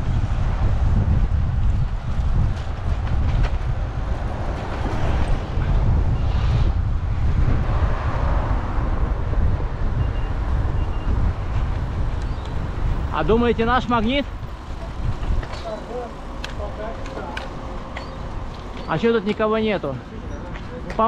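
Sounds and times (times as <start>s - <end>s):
bicycle road noise: 0.0s - 21.0s
wind rushing over microphone: 0.0s - 21.0s.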